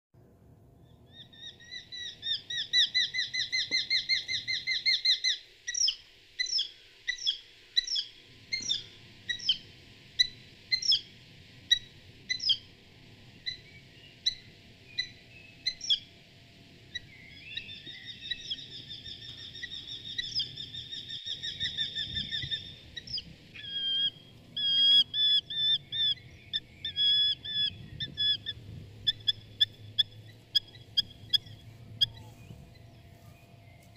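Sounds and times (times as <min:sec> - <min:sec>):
bird singing trills and whistles: 0:01.0 - 0:09.6, 0:13.4 - 0:16.1, 0:16.9 - 0:33.9.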